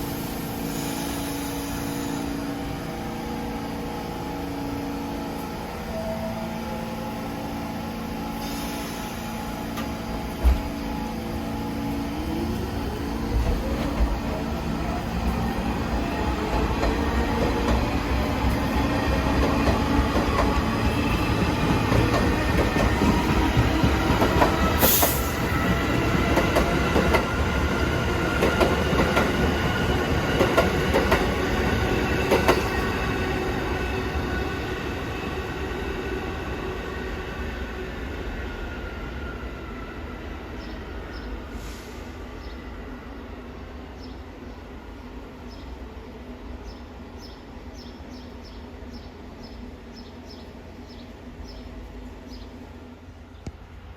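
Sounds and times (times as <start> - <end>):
subway train rumbling past: 0.0 - 53.9.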